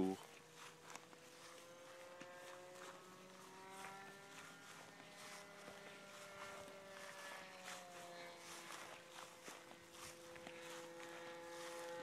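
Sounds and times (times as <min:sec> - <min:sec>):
model airplane engine buzz: 0:00.0 - 0:12.0.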